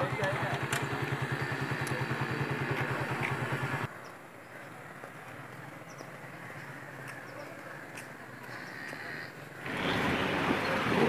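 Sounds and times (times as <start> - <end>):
quiet outdoor background: 0.0 - 11.0
small engine idling: 0.0 - 11.0.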